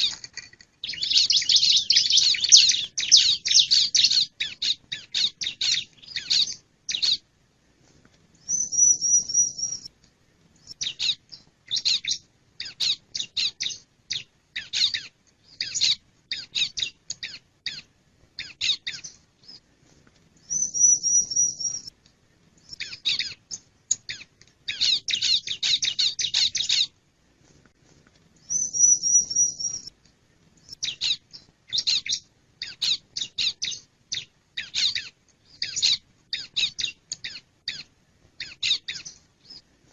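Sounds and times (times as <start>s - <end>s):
bird trill: 0.0s - 7.2s, 8.4s - 9.9s, 10.6s - 19.6s, 20.4s - 21.9s, 22.6s - 26.9s, 28.4s - 29.9s, 30.6s - 39.6s
bird sharp high chirps: 0.8s - 7.2s, 8.4s - 9.9s, 10.6s - 19.6s, 20.4s - 21.9s, 22.6s - 26.9s, 28.4s - 29.9s, 30.6s - 39.6s.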